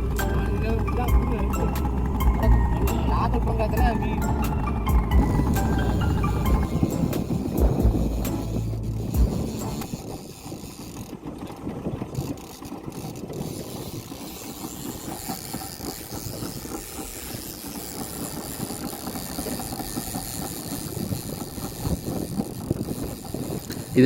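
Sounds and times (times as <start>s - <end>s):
boat motor running: 0.0s - 24.0s
wind: 0.0s - 24.0s.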